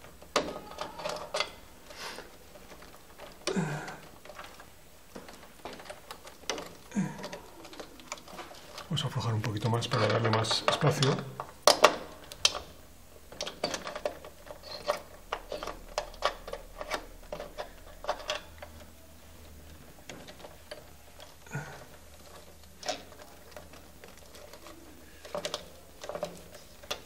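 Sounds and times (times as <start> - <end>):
allen key clicking on screws: 0.0 - 1.7, 2.6 - 8.9, 9.8 - 19.0, 20.0 - 27.0.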